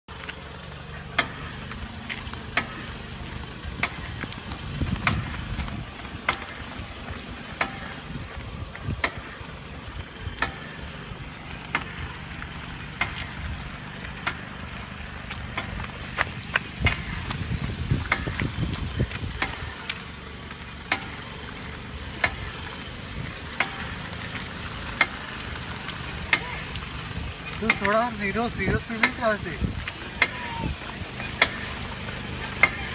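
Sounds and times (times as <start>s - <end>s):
low road and engine rumble: 0.1s - 32.9s
car wheel knocking: 1.0s - 32.9s.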